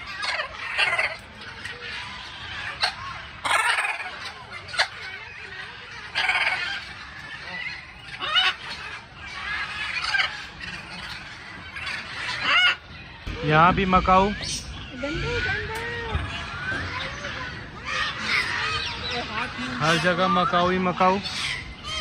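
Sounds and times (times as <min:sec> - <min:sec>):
parrots squawking: 0:00.0 - 0:22.0.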